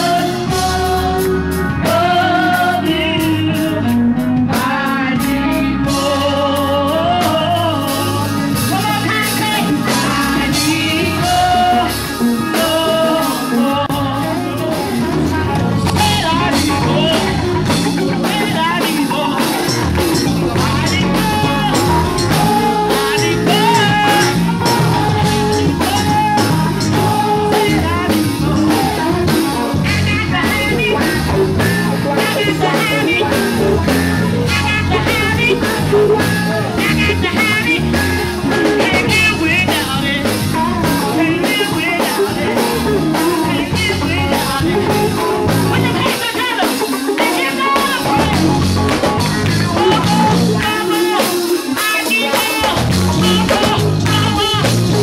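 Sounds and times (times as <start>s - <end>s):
gospel band with fast beat: 0.0s - 55.0s
person singing: 0.0s - 55.0s.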